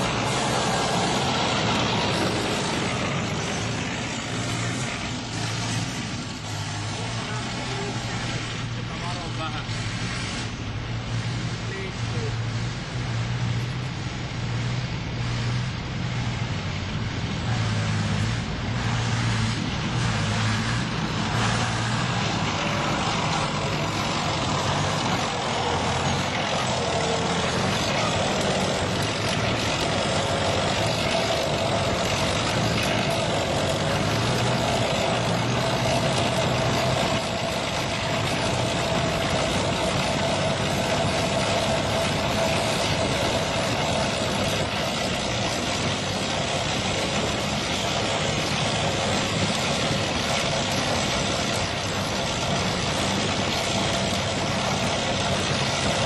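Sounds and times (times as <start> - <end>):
heavy vehicle engines: 0.0 - 56.0
steady whine: 0.0 - 56.0.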